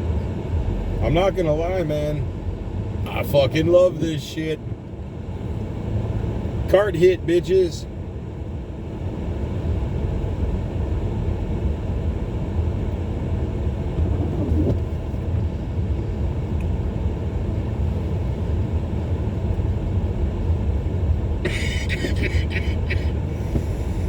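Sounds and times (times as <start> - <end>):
engine and tyres rumbling in car: 0.0 - 24.0.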